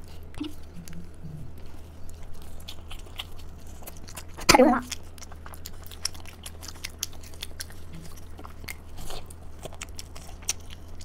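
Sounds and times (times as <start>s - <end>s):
wet chewing and biting: 0.0s - 11.0s.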